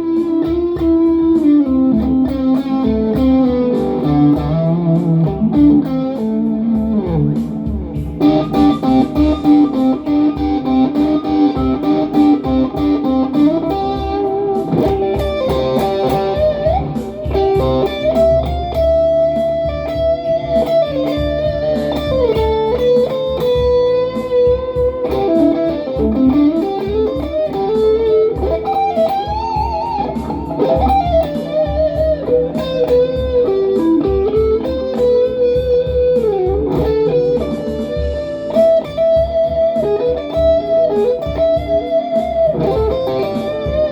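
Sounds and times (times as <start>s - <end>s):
electric guitar bluesy lead melody: 0.0s - 43.9s.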